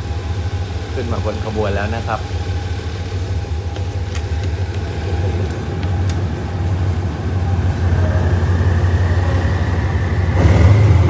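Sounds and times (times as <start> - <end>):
faint rising whine: 0.0 - 11.0
locomotive engine drone: 0.0 - 11.0.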